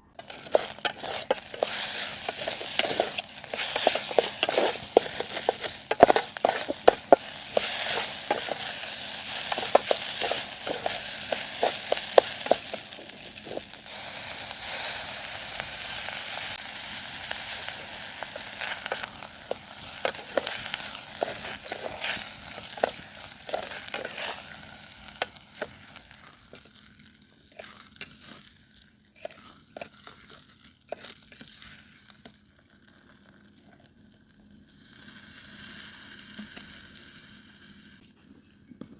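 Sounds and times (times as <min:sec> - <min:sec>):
food sizzling in a pan: 0:00.0 - 0:38.1.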